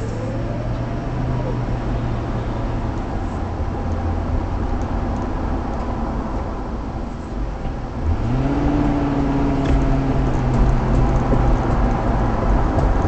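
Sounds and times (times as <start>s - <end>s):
car engine hum: 0.0s - 13.0s
road and tyre noise: 0.0s - 13.0s.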